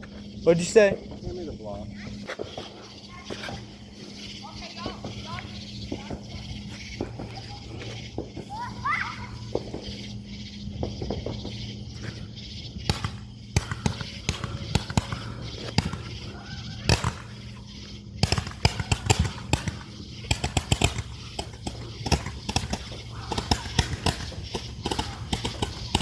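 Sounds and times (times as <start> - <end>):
fireworks popping and crackling: 2.3 - 26.0.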